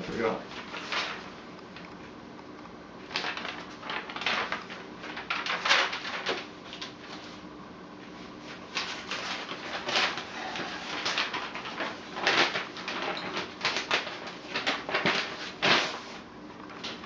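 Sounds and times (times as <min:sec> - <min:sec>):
paper rustling and crackling: 0:00.1 - 0:01.4, 0:03.0 - 0:17.0.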